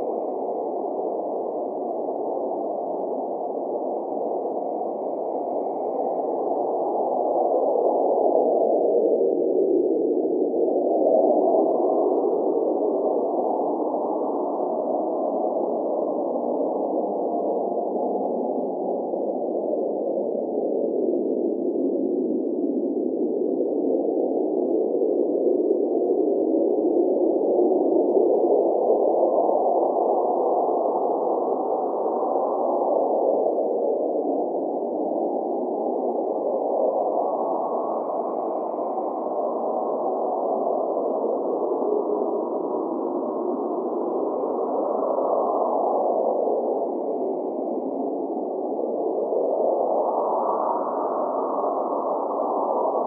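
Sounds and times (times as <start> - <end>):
blizzard wind blowing: 0.0 - 53.0.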